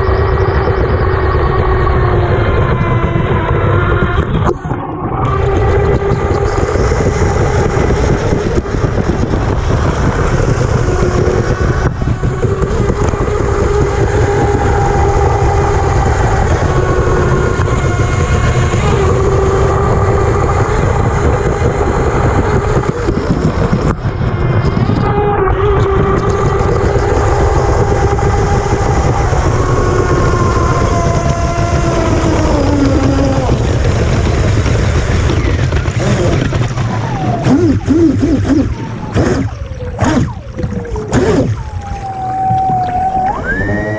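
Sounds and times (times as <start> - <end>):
electric motor whining: 0.0 - 43.9
rush of water: 0.0 - 43.9
wind noise: 0.0 - 43.9.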